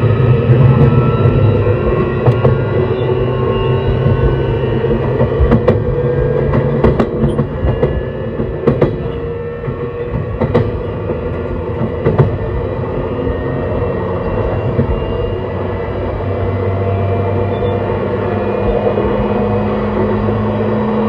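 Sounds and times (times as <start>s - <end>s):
train motor hum: 0.0s - 21.0s
wheels clicking over rail joints: 0.7s - 21.0s.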